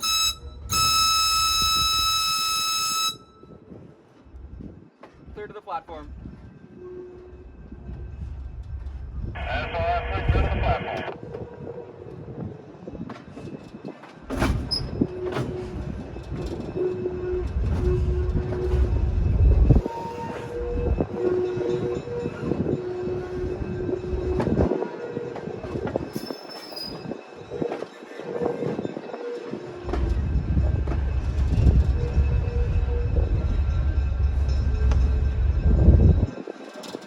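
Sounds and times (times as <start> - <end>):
train rumbling slowly: 0.0 - 37.0.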